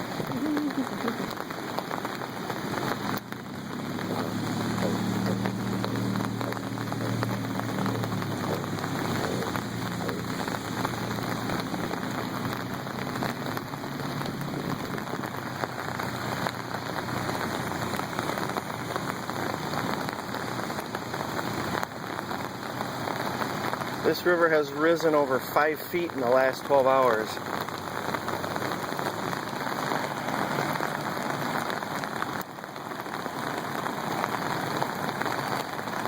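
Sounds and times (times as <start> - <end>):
water spattering and rushing: 0.0 - 36.0.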